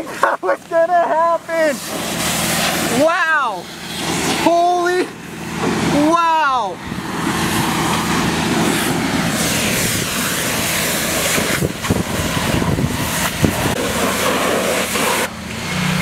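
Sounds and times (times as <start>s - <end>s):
engine running: 0.0s - 16.0s
rushing hiss of spray and steam: 0.0s - 16.0s
water spraying from a hose: 0.0s - 16.0s.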